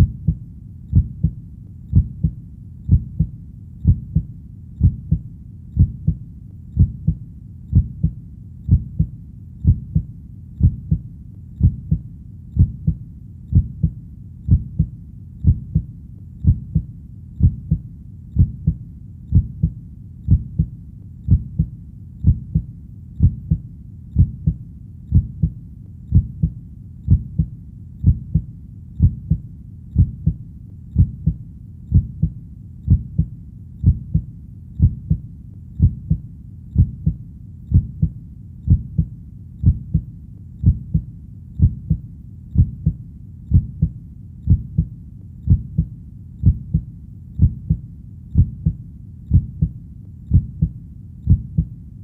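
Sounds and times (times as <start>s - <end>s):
heartbeat: 0.0s - 51.8s.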